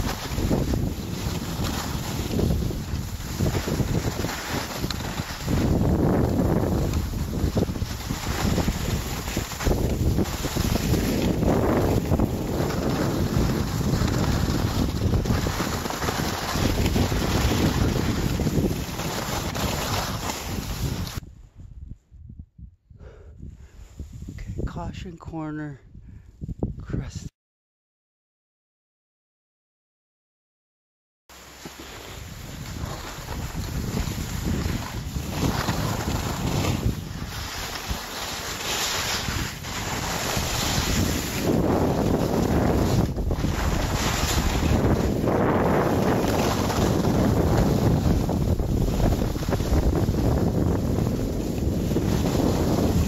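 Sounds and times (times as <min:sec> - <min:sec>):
skis scraping over snow: 0:00.0 - 0:21.2, 0:31.3 - 0:53.0
wind buffeting microphone: 0:00.0 - 0:24.9, 0:25.8 - 0:27.0, 0:32.2 - 0:53.0.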